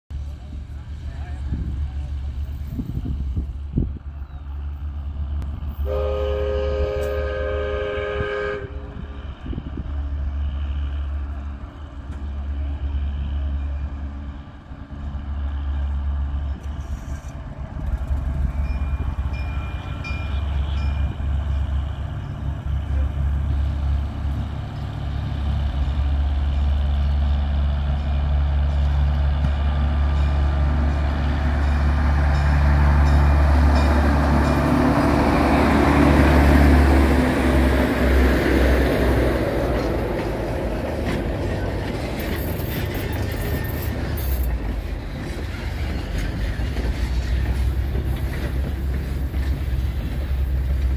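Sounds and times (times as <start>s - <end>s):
passenger train rumbling past: 0.1s - 50.9s.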